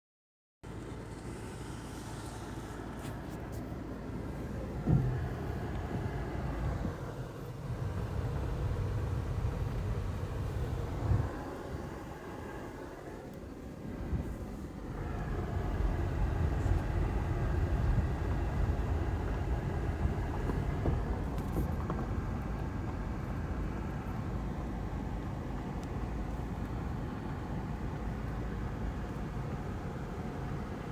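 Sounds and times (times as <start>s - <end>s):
road noise: 0.6s - 30.9s
vehicle engine rumble: 0.6s - 30.9s.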